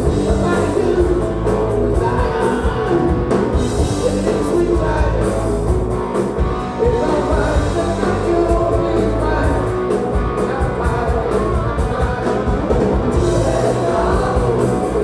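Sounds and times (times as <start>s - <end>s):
man singing lead: 0.0s - 5.6s, 6.6s - 15.0s
rock band playing live: 0.0s - 15.0s.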